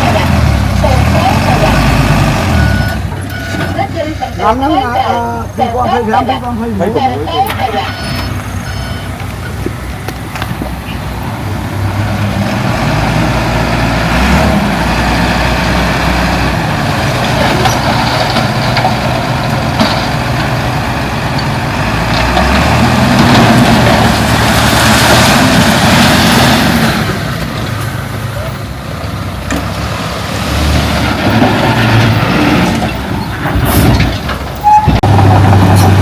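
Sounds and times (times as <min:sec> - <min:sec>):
heavy diesel engine under load: 0:00.0 - 0:36.0.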